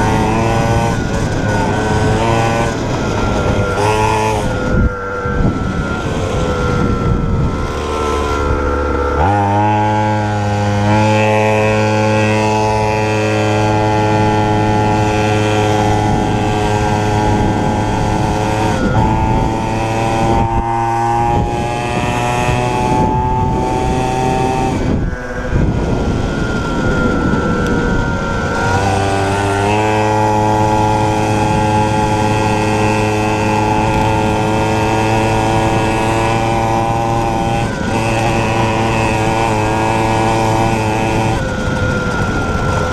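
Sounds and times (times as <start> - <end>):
two-stroke motorbike engine revving: 0.0 - 42.9.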